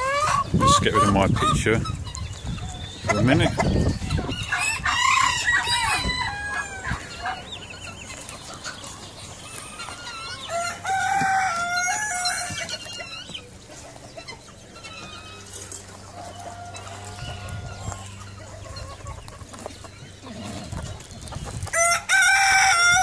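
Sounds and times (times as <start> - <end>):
chickens clucking: 0.0 - 23.0
roosters crowing: 0.0 - 23.0.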